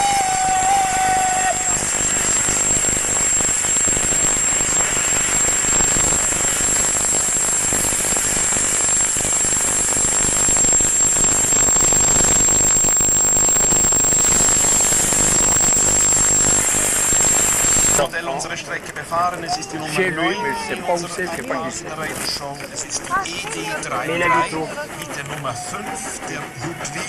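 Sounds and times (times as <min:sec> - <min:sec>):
steam locomotive passing: 0:00.0 - 0:17.6, 0:22.6 - 0:27.0.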